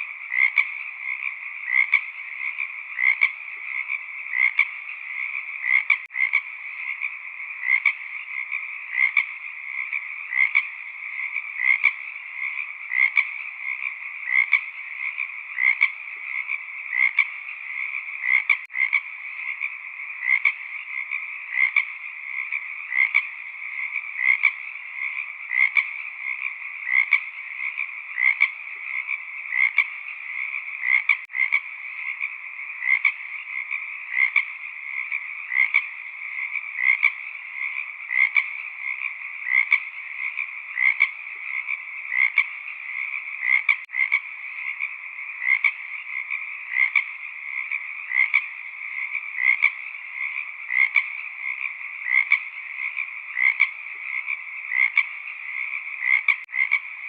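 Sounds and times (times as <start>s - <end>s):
chorus of frogs calling: 0.0s - 57.0s
louder frog call: 0.0s - 57.0s.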